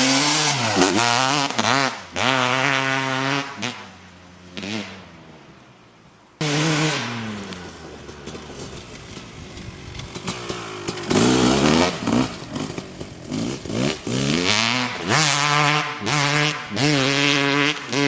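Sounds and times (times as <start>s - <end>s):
two-stroke engine revving: 0.0s - 5.1s, 6.4s - 18.0s.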